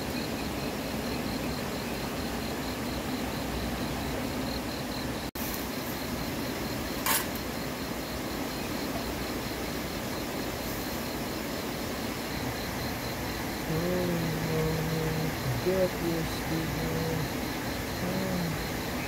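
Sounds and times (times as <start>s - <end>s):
hiss-like background noise: 0.0s - 19.0s
pulsing high insect call: 0.0s - 19.0s.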